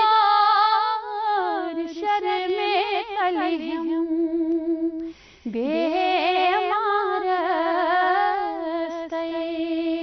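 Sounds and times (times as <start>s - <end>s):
woman singing without words: 0.0s - 10.0s.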